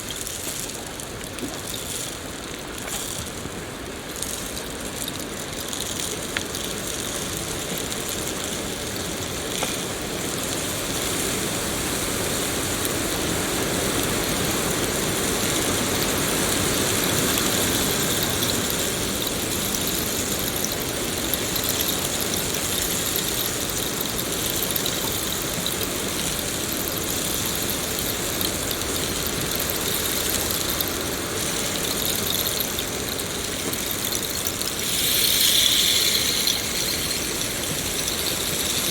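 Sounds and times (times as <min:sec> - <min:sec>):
rain on foliage: 0:00.0 - 0:38.9.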